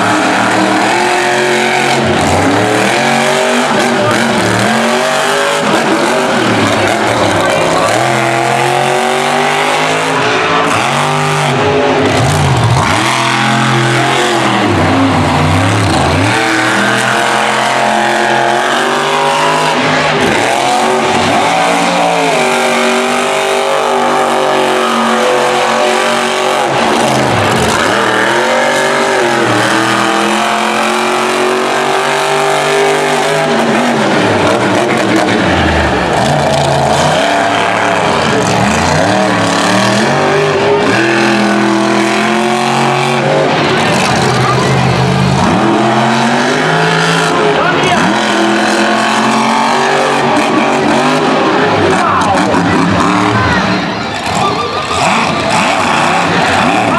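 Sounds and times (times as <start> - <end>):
truck engine revving hard: 0.0 - 56.9.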